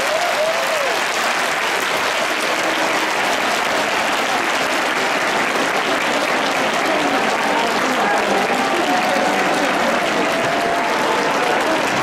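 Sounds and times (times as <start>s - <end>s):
faint voices: 0.0s - 12.0s
stadium crowd applauding: 0.0s - 12.0s.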